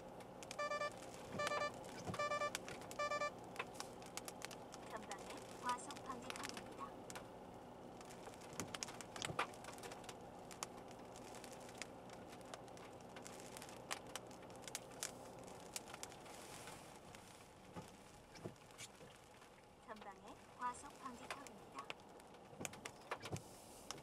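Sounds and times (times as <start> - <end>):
car engine and road hum: 0.0 - 24.0
rain ticking on car: 0.0 - 24.0.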